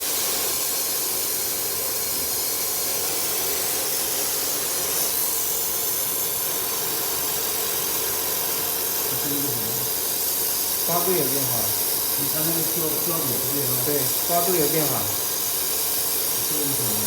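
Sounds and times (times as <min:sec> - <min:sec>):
laser welding hiss: 0:00.0 - 0:17.0.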